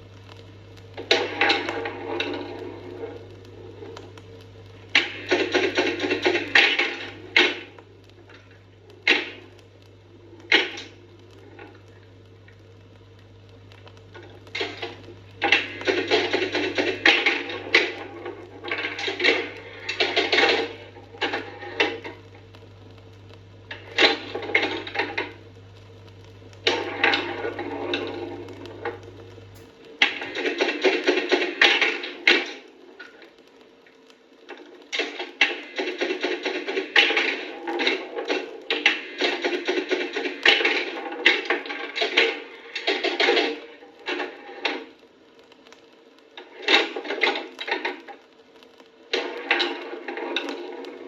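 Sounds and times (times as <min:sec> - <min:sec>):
machine electrical hum: 0:00.0 - 0:51.0
rapid mechanical clicking: 0:00.0 - 0:51.0.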